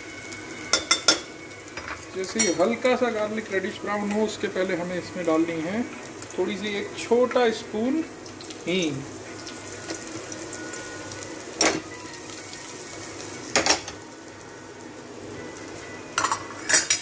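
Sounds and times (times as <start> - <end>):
ghee sizzling with spices: 0.0 - 17.0.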